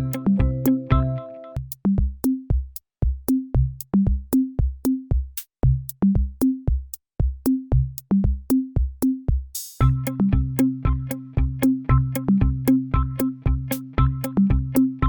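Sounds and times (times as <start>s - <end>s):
electronic drum-machine beat: 0.0s - 15.0s.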